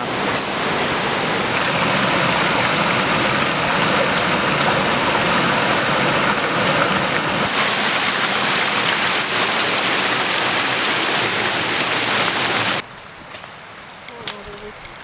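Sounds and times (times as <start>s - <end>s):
creek water rushing over rocks: 0.0s - 12.8s.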